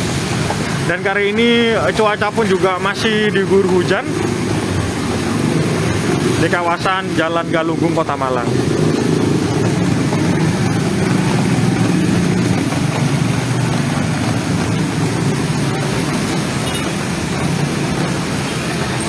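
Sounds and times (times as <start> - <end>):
motorcycle and car engines: 0.0 - 19.0
tyres on wet road: 0.0 - 19.0.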